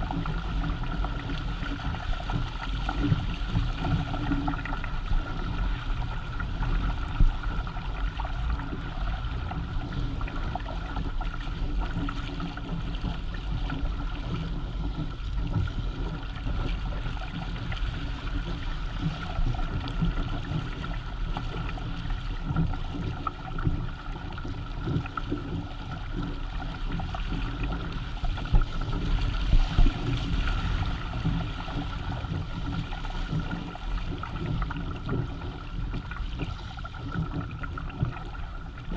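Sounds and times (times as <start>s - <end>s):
steady low rumble: 0.0s - 38.9s
water rushing along hulls: 0.0s - 38.9s.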